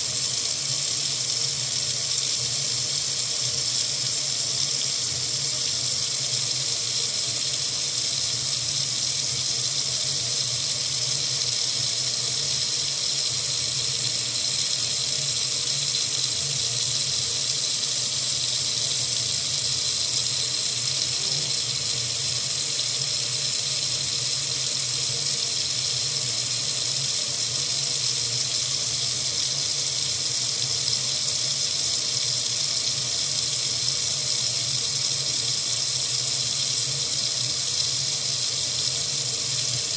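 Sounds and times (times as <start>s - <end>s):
water running from faucet: 0.0s - 39.9s.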